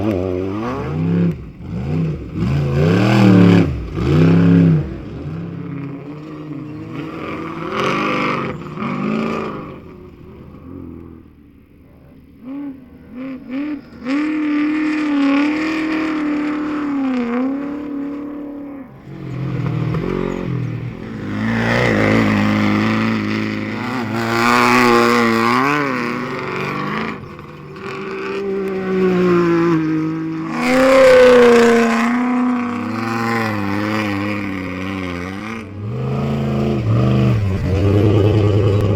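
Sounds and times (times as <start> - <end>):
race vehicle engines revving: 0.0 - 38.9.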